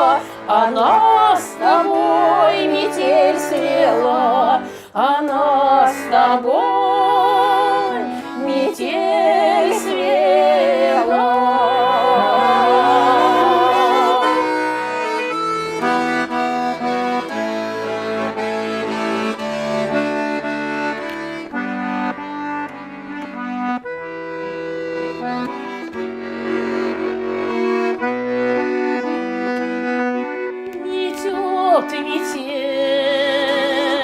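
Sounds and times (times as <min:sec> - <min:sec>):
button accordion playing: 0:00.0 - 0:34.0.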